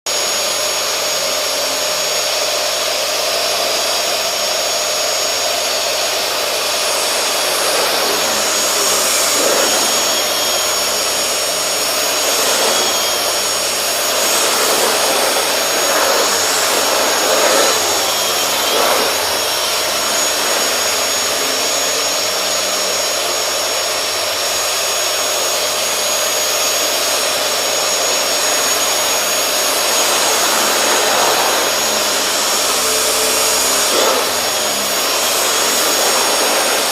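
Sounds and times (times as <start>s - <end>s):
vacuum cleaner on carpet: 0.1s - 36.9s.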